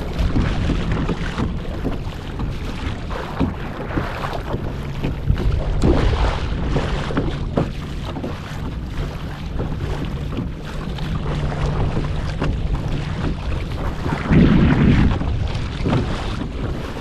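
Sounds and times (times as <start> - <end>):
short water splashes: 0.0 - 17.0
water lapping against kayak hull: 0.0 - 17.0
wind buffeting microphone: 0.0 - 17.0.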